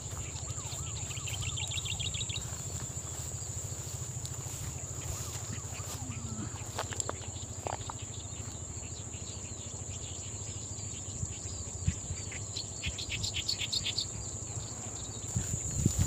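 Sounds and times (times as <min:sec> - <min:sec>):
crickets chirping chorus: 0:00.0 - 0:16.0.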